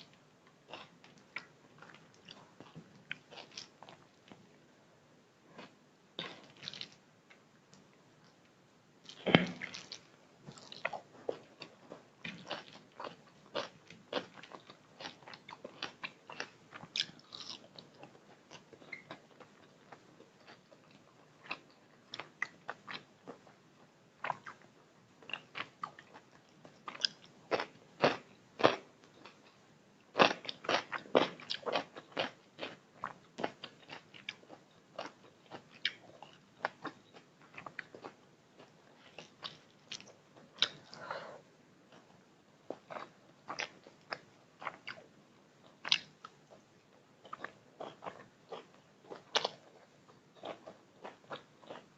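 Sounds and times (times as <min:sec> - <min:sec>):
person chewing food: 0:00.1 - 0:04.4, 0:05.6 - 0:07.0, 0:09.1 - 0:23.6, 0:24.2 - 0:41.2, 0:41.9 - 0:46.6, 0:47.2 - 0:51.9.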